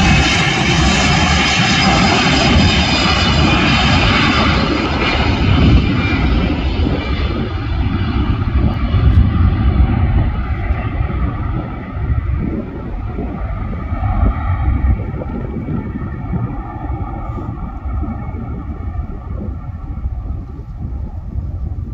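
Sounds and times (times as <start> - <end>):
high whining fan tone: 0.0 - 21.9
jet engine roar: 0.0 - 21.9.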